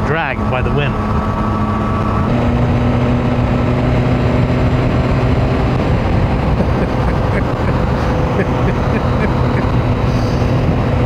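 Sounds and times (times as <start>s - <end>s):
motorcycle engine cruising: 0.0s - 11.0s
wind rush: 1.0s - 11.0s.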